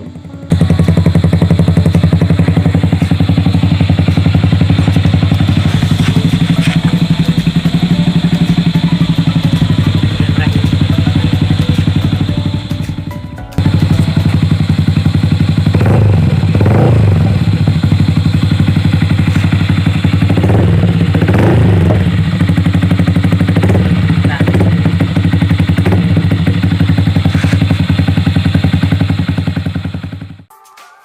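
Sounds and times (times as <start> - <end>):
motorcycle engine idling and revving: 0.0 - 30.5.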